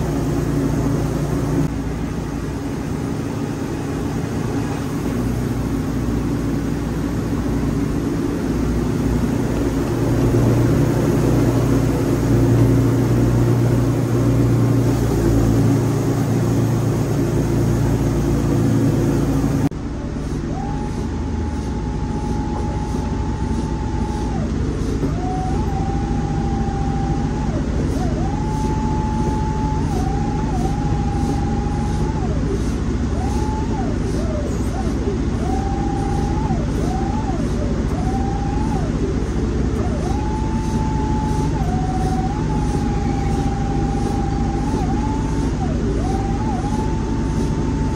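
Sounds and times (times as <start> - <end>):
sawmill engine drone: 0.0 - 47.9
high whine of saw: 2.4 - 47.9.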